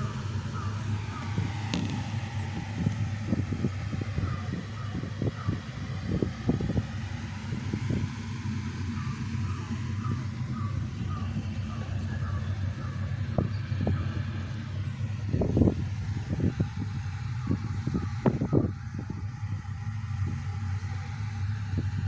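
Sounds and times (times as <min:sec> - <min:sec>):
vehicle running rumble: 0:00.0 - 0:22.0.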